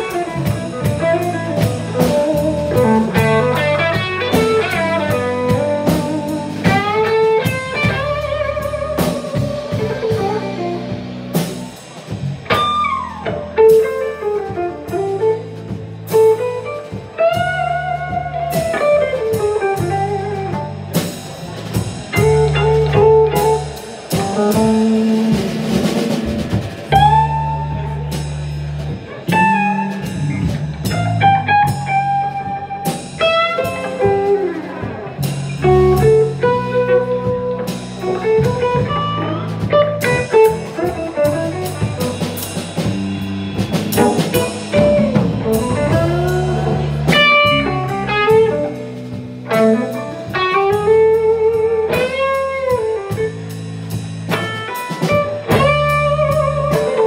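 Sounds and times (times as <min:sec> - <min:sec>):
drum kit: 0:00.0 - 0:57.0
electric bass: 0:00.0 - 0:57.0
electric guitar lead lines: 0:00.0 - 0:57.0.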